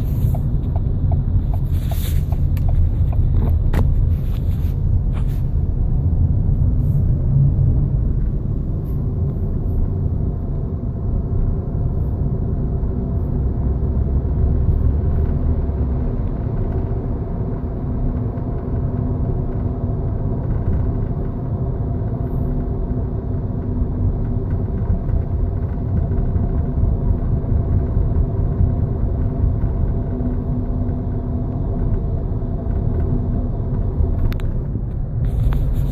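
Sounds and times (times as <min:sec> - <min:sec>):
car engine rumbling: 0:00.0 - 0:35.9.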